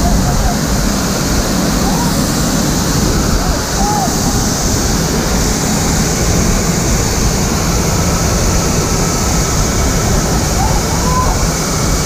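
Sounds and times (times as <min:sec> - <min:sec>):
fire hose spraying water: 0:00.0 - 0:12.0
gas fire roaring: 0:00.0 - 0:12.0.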